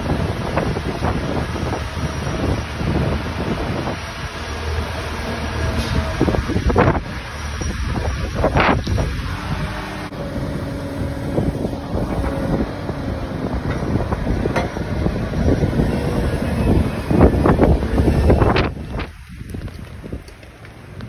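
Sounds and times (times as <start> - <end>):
loader engine running: 0.0 - 21.0
wind buffeting microphone: 0.0 - 21.0.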